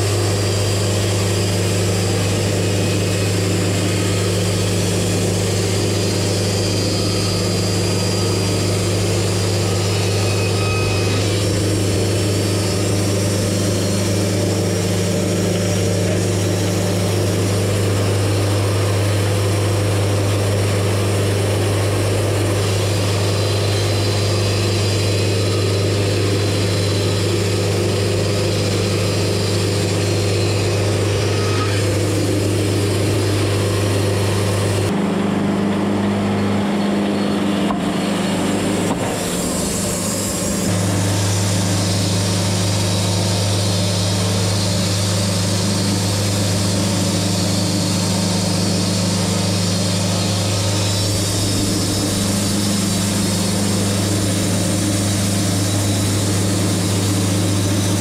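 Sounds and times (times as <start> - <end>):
band sawmill humming: 0.0 - 58.0.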